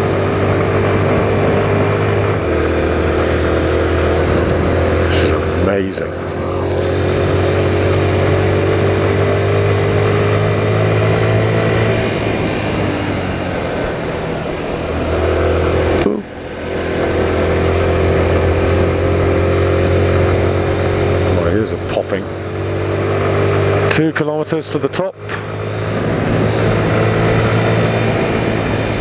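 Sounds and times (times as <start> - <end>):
motorcycle engine pulling uphill: 0.0 - 29.0.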